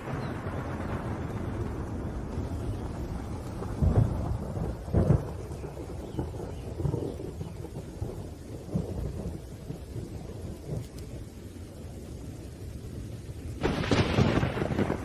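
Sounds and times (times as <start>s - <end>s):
loud thunder crack: 0.0s - 10.9s, 13.6s - 15.0s
rain: 0.0s - 15.0s
rolling thunder: 0.0s - 15.0s.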